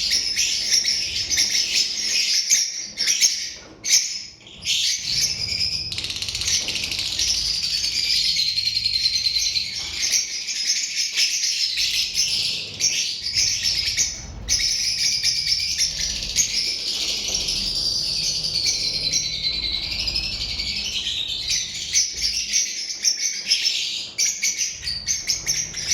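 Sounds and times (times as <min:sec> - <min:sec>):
lovebirds chattering: 0:00.0 - 0:25.9.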